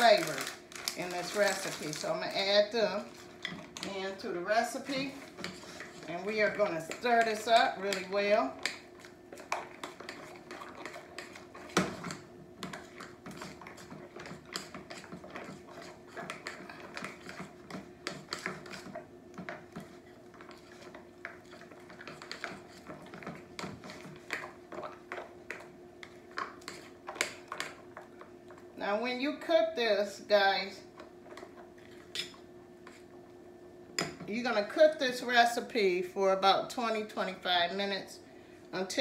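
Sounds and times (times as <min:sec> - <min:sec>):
spoon stirring thick batter: 0:00.0 - 0:29.6, 0:30.6 - 0:33.3
steady low hum: 0:00.0 - 0:39.0.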